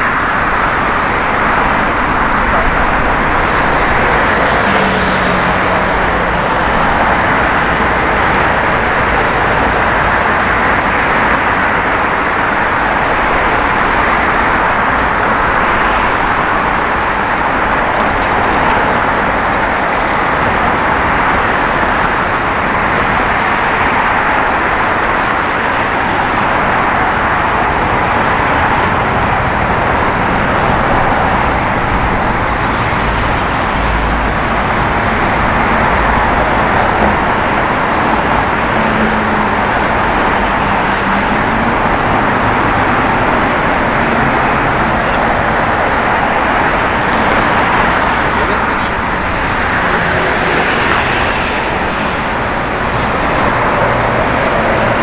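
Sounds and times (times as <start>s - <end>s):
road traffic hiss: 0.0s - 55.0s.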